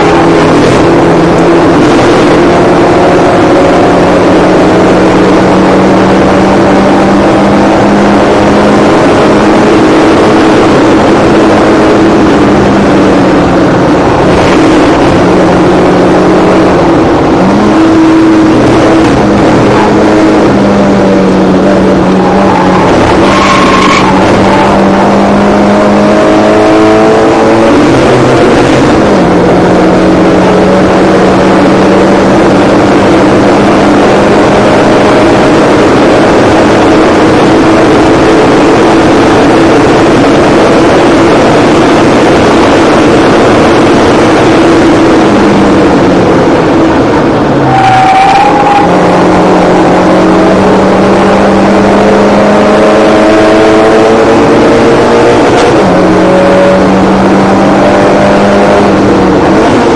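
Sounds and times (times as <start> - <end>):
race car engine at high revs: 0.0 - 59.9
road and wind noise: 0.0 - 59.9.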